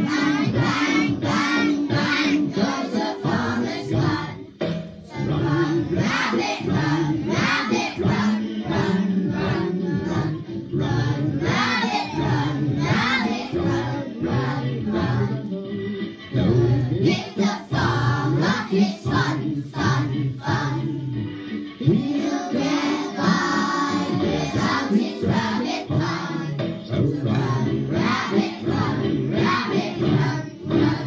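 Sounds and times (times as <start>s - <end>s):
children singing in chorus: 0.0s - 4.4s, 5.0s - 15.5s, 16.4s - 21.1s, 21.8s - 31.0s.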